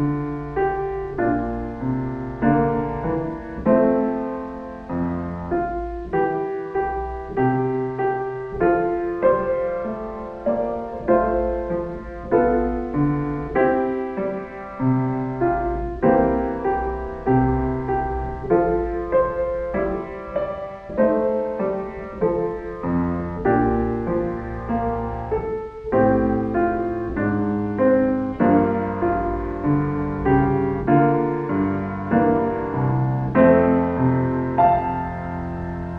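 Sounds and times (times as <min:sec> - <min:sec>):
gentle piano music: 0:00.0 - 0:35.9.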